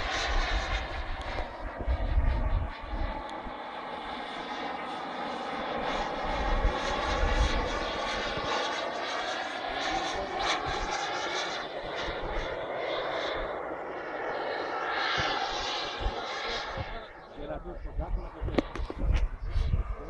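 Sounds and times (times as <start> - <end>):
model jet engine whine: 0.0 - 20.0.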